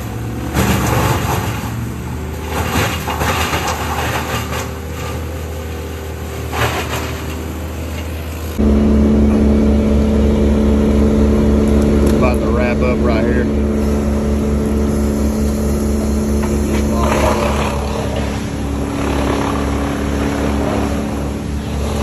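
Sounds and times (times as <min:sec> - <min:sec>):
diesel loader engine working: 0:00.0 - 0:22.0
steady engine hum: 0:00.0 - 0:22.0.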